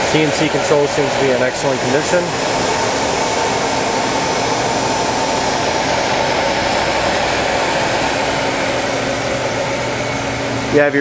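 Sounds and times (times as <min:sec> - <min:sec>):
machinery whirring: 0:00.0 - 0:11.0.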